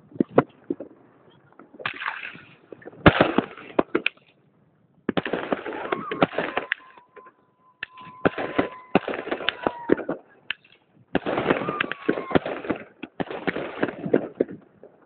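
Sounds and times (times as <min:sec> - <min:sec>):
fireworks bangs and crackles: 0:00.0 - 0:04.3, 0:05.0 - 0:15.0.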